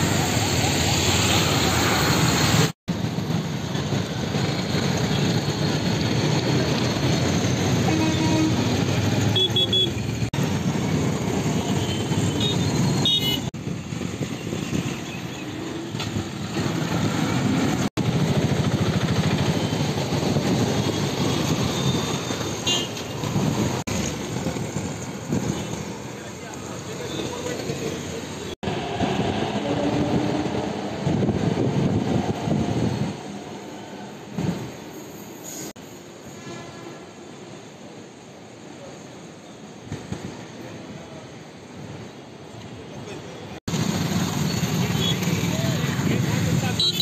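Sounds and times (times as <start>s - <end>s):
street traffic noise: 0.0s - 47.0s.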